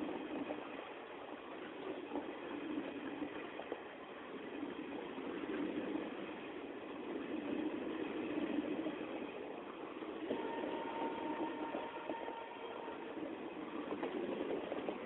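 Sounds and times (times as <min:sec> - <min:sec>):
faint rail clicks: 0:00.0 - 0:15.0
train wheels rumbling on rails: 0:00.0 - 0:15.0.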